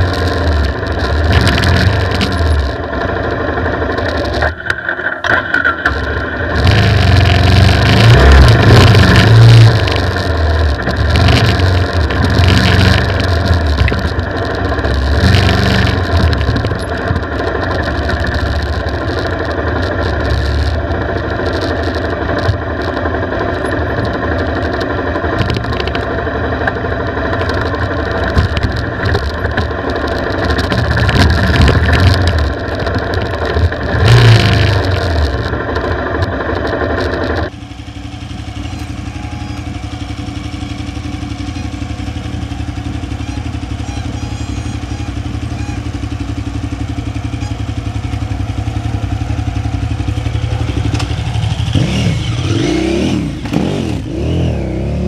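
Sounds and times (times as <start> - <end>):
off-road motorcycle engine revving: 0.0 - 55.0.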